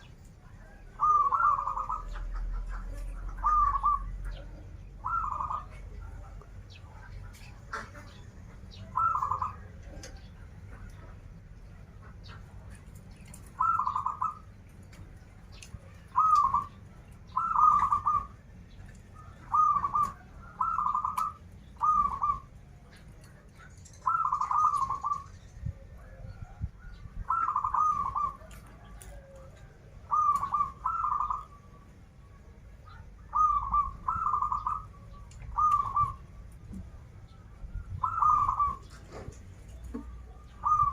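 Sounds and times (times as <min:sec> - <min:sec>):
dove cooing: 0:00.0 - 0:11.2, 0:12.0 - 0:40.9
steady low rumble: 0:00.0 - 0:40.9.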